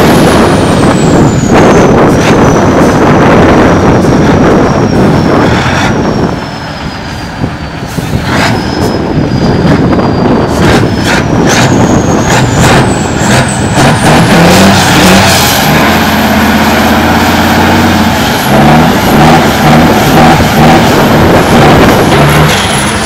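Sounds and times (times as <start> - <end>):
diesel truck engine revving: 0.0 - 23.0.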